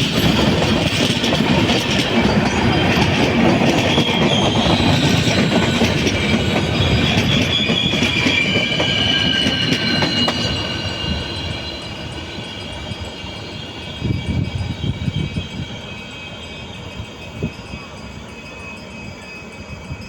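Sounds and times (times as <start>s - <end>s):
train wheel squeal: 0.0s - 20.0s
train wheels rumbling: 0.0s - 20.0s.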